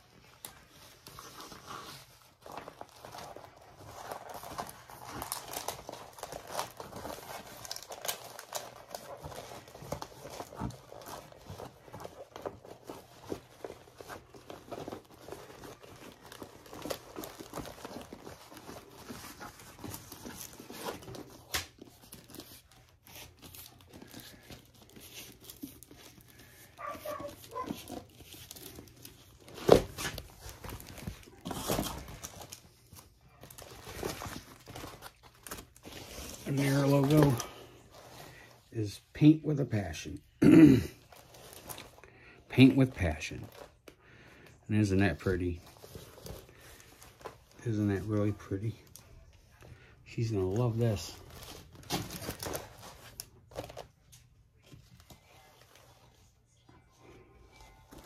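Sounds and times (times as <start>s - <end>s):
plastic film and paper crinkling: 0.0s - 40.3s, 40.9s - 58.0s.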